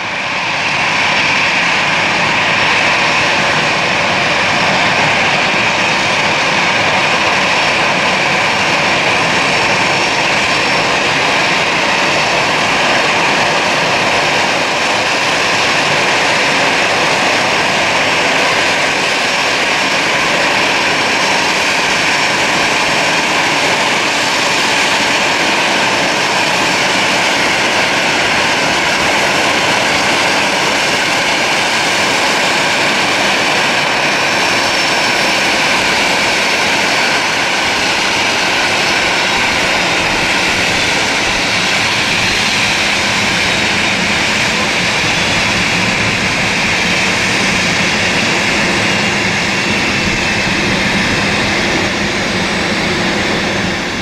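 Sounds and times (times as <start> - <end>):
jet engine noise with high whine: 0.0 - 54.0.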